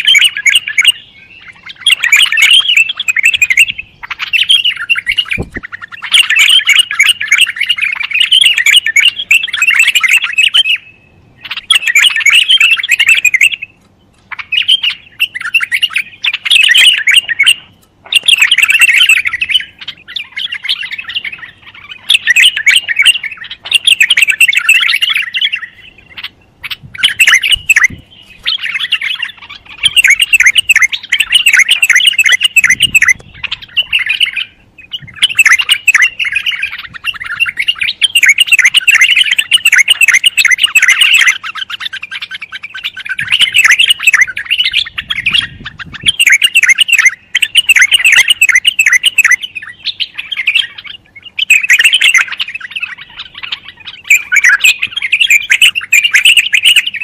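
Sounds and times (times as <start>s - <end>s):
bird chirping rapidly: 0.0s - 57.0s.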